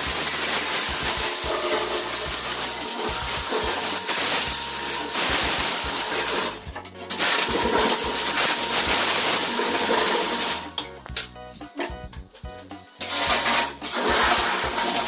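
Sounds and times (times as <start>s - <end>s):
loud spray hiss: 0.0s - 10.7s, 13.0s - 15.0s.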